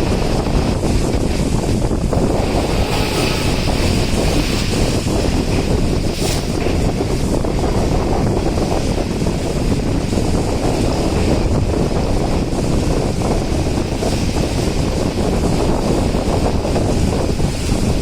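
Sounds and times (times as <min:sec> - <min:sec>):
train rumbling: 0:00.0 - 0:18.0
wind buffeting microphone: 0:00.0 - 0:18.0.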